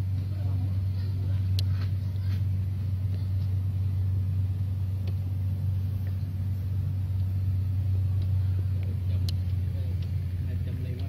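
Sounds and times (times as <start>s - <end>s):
engine droning steadily: 0.0s - 11.0s.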